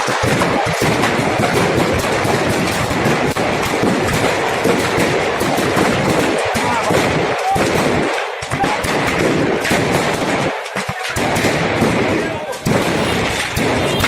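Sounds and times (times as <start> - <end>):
firecrackers banging: 0.0 - 14.0
steady noisy rush: 0.0 - 14.0.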